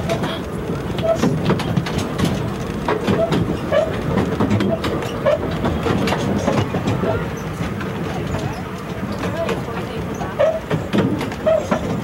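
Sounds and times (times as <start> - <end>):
railway coach rumbling: 0.0 - 12.0
wheels clicking on rails: 0.0 - 12.0.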